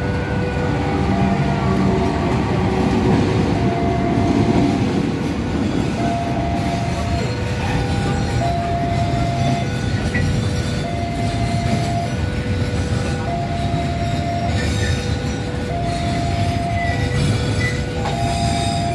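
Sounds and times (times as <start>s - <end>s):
freight train rumbling over rails: 0.0s - 18.9s
locomotive engine running: 0.0s - 18.9s.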